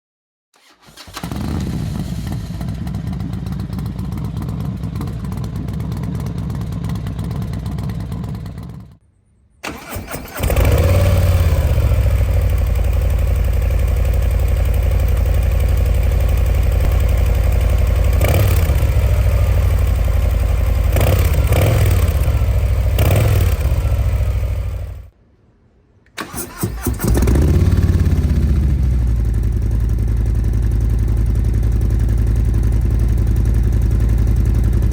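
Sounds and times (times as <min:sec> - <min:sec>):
motorcycle engine revving: 0:00.6 - 0:09.0, 0:09.7 - 0:25.1, 0:26.2 - 0:34.9
motorcycle engine idling: 0:01.6 - 0:09.0, 0:10.7 - 0:25.1, 0:27.2 - 0:34.9.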